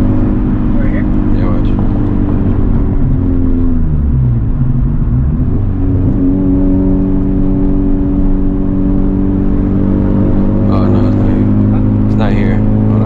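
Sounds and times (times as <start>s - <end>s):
car engine and exhaust: 0.0s - 13.0s.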